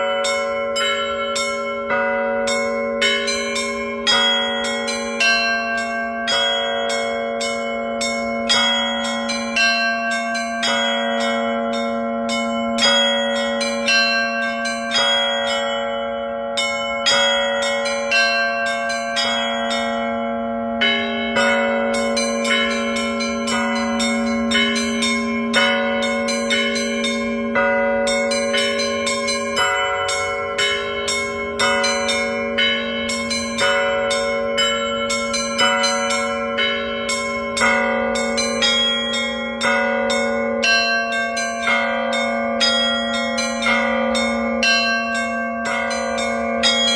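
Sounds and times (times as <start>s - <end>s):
low ringing bell tone: 0.0s - 46.9s
small bells struck in pattern: 0.0s - 46.9s.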